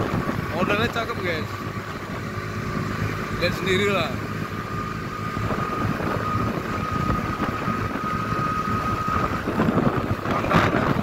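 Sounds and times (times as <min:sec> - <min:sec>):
wind on microphone: 0:00.0 - 0:03.4, 0:04.1 - 0:11.0
motorcycle engine rumble: 0:00.0 - 0:11.0
thin steady whine: 0:00.0 - 0:11.0
tyres on road: 0:00.0 - 0:11.0.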